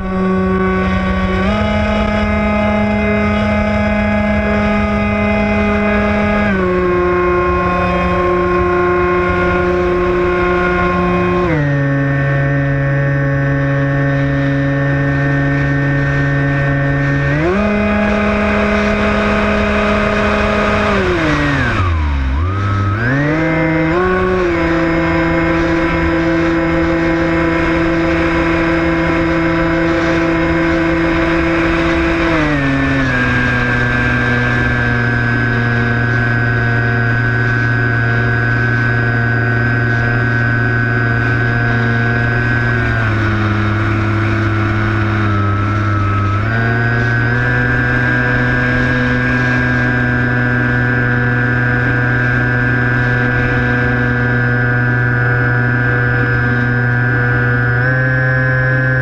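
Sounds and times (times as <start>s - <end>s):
electric motor and propeller droning: 0.0s - 59.0s.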